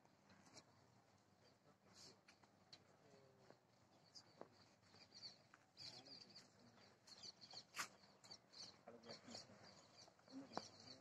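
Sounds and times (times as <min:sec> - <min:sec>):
faint bird chirps: 0:01.4 - 0:11.0.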